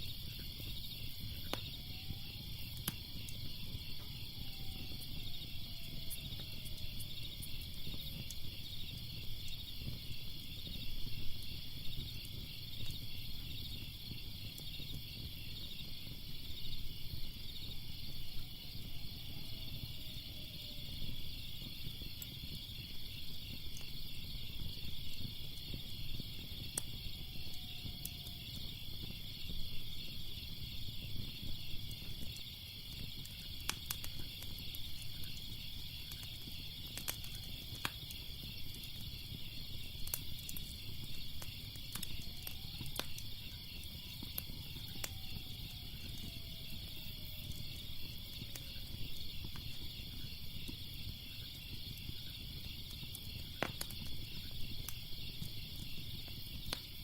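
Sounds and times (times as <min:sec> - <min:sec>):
crickets chirping: 0:00.0 - 0:57.0
fire crackling and popping: 0:00.0 - 0:57.0.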